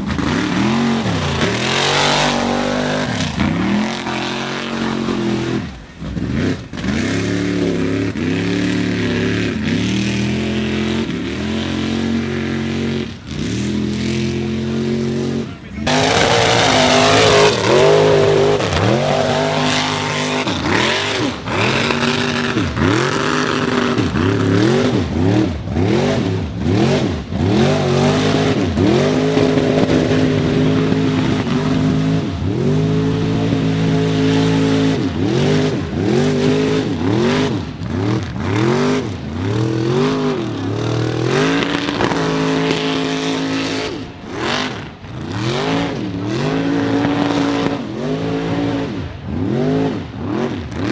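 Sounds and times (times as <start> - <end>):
truck engine revving hard: 0.0 - 50.9.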